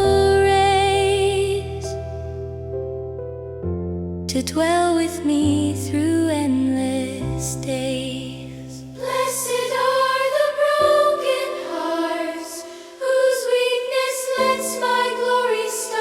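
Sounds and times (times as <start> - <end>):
gospel piano hymn: 0.0 - 16.0.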